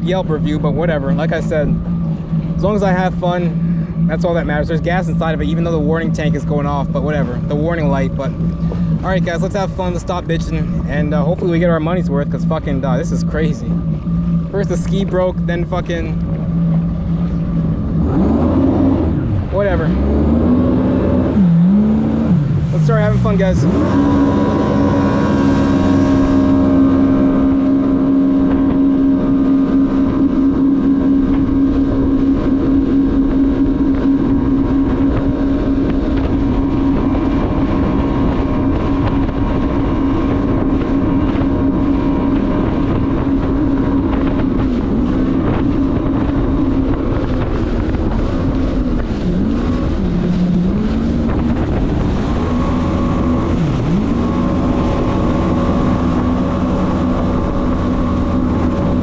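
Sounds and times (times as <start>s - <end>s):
jet ski engine running: 0.0s - 59.0s
wind and water noise: 0.0s - 59.0s.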